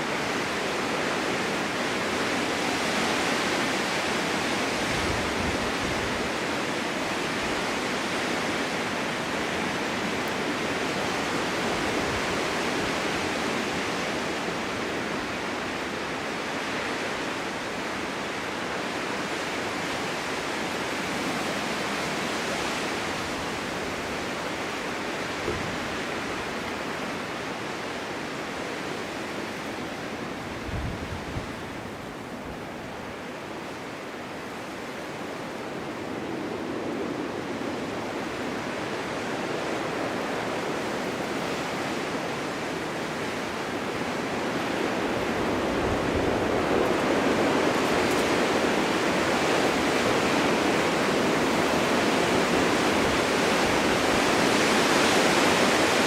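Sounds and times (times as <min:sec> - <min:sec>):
low wind buffets: 0:00.0 - 0:56.0
snowstorm wind blowing: 0:00.0 - 0:56.0.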